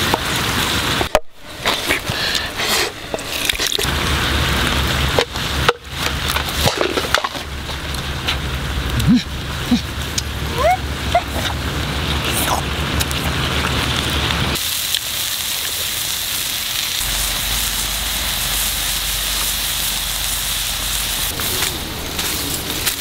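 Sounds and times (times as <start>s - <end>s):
food sizzling in a wok: 0.0s - 10.1s, 13.5s - 23.0s
wood fire crackling: 0.0s - 23.0s.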